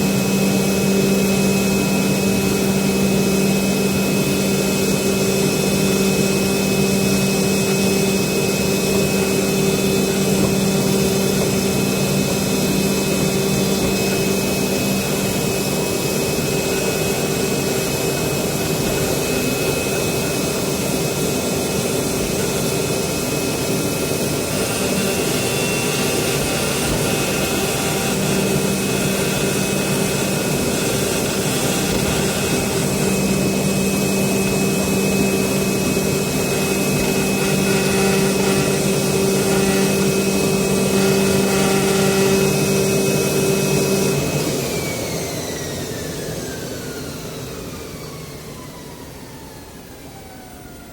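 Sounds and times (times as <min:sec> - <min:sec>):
fabric cutting machine rushing noise: 0:00.0 - 0:48.8
constant machine hum: 0:00.0 - 0:50.9.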